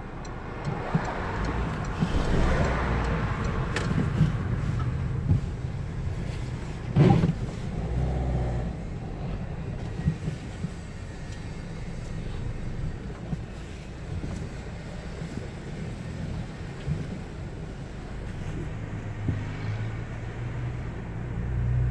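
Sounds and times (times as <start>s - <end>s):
vehicle engine and road rumble: 0.0s - 21.9s.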